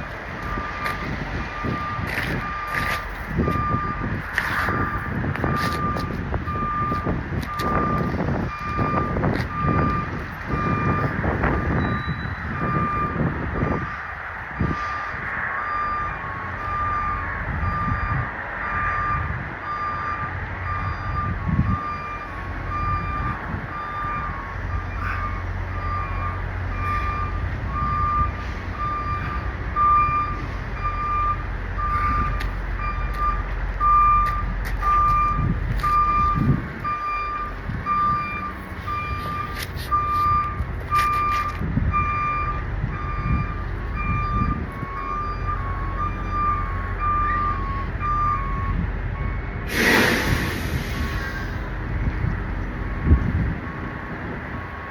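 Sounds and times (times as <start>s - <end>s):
diesel engine idling: 0.0s - 11.8s, 12.4s - 54.9s
truck reversing alarm beeping: 0.0s - 54.9s.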